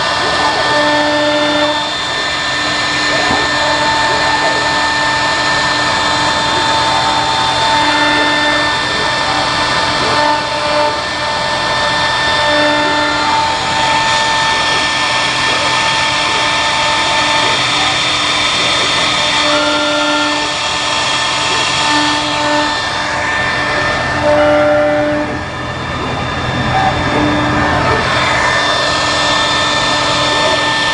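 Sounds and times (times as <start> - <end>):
cnc router whirring: 0.0 - 30.9.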